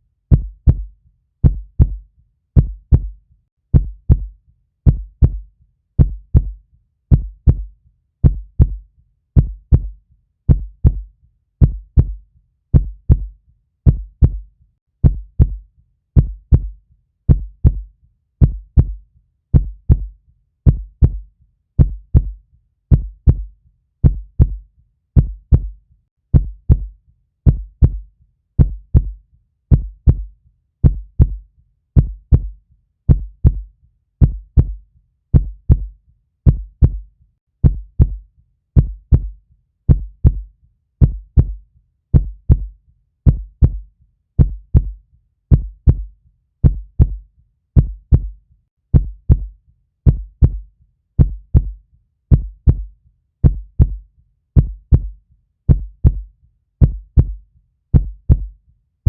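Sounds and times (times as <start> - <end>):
human heartbeat: 0.3 - 58.6.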